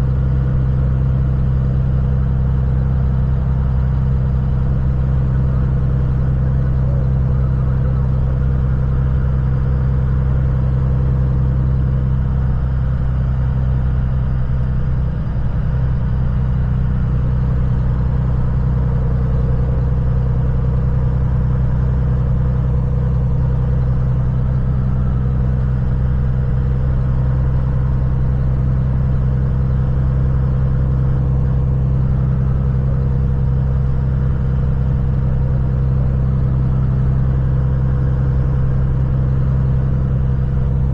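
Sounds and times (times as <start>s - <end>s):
truck diesel engine droning: 0.0s - 40.9s.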